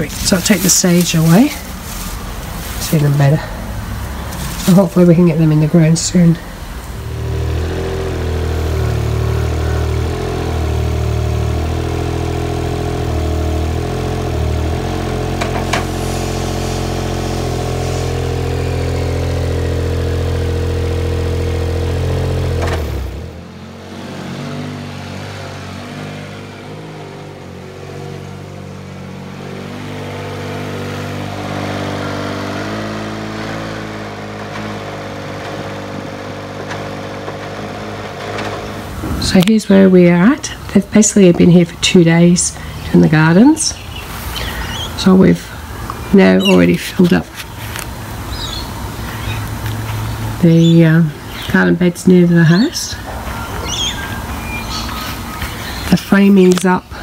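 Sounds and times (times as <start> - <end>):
loader engine running: 0.0 - 57.0.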